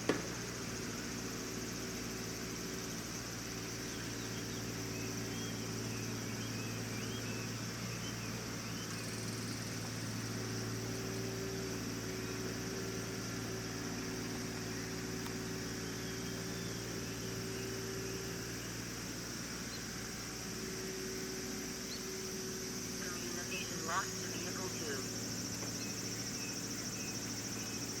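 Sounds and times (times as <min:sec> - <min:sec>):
electric motors humming: 0:00.0 - 0:28.0.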